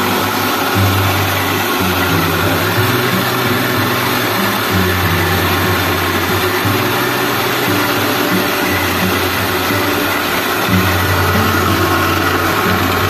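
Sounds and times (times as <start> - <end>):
rice milling machine running: 0.0 - 13.0.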